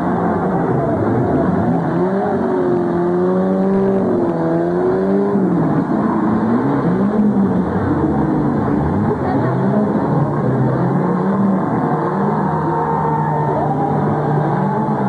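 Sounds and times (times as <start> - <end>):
car engines running hard: 0.0 - 15.0
engine revving: 0.0 - 15.0.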